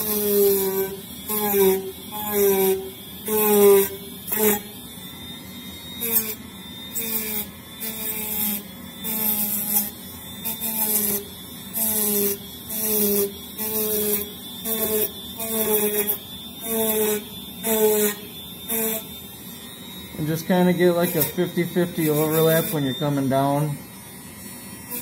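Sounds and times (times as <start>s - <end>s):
rotary tool motor: 0.0s - 25.0s.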